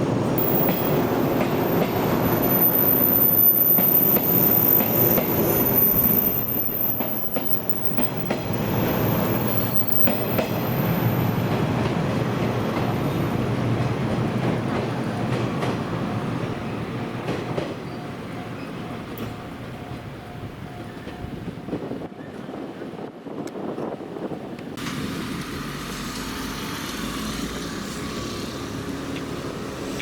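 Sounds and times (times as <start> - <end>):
electric train wheels rumbling: 0.0 - 30.0.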